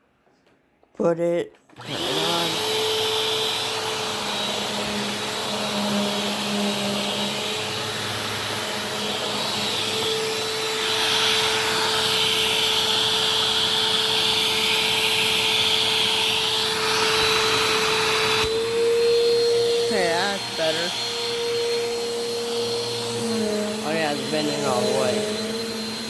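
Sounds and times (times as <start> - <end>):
upright vacuum cleaner running: 1.8 - 26.0.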